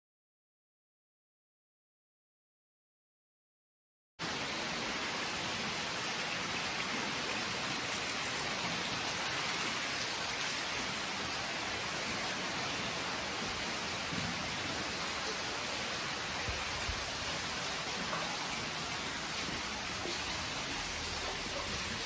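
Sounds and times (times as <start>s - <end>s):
rushing water in a cave: 4.2s - 22.0s.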